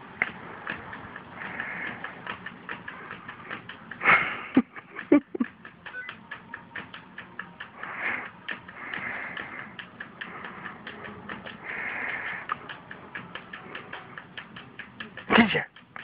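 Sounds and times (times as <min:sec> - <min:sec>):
rapid even ticking: 0:00.0 - 0:16.0
cat paws scratching laptop screen: 0:00.2 - 0:16.0.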